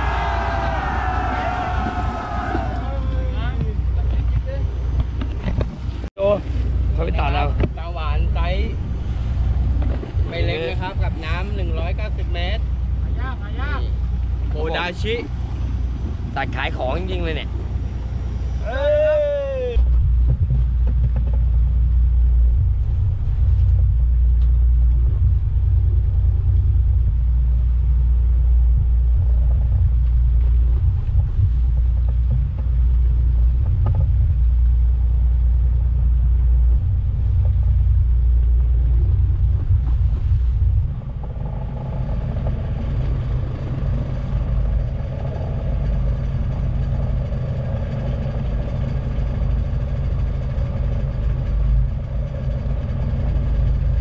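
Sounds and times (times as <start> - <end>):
boat engine rumbling: 0.0 - 54.0
wind buffeting microphone: 0.0 - 54.0.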